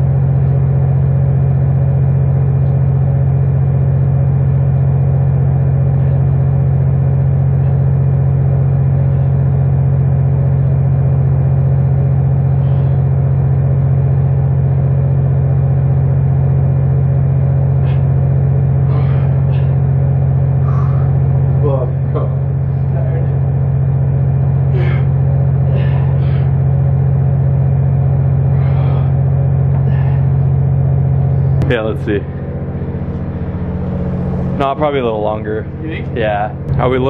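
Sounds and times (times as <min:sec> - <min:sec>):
boat machinery droning: 0:00.0 - 0:37.0.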